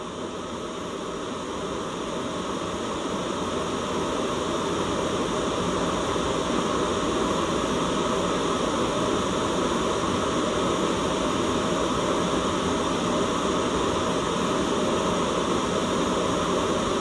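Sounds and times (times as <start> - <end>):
white noise hiss: 0.0 - 17.0.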